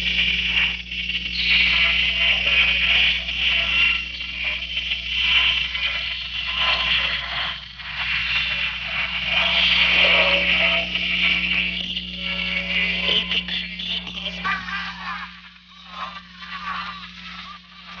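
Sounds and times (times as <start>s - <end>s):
harsh wavering hiss and crackle: 0.0s - 18.0s
low electrical hum: 0.0s - 18.0s.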